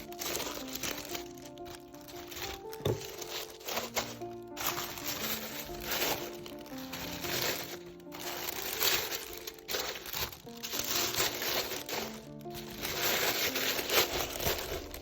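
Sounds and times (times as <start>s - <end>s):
background music with held notes: 0.0s - 15.0s
packaging crinkling and rustling: 0.0s - 15.0s.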